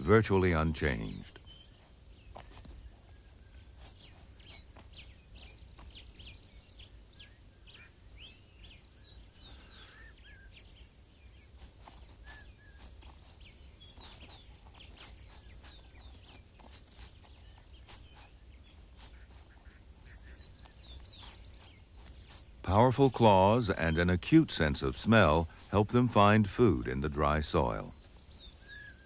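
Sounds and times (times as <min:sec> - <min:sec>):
low steady hum: 0:00.0 - 0:29.0
small birds chirping: 0:00.0 - 0:29.0.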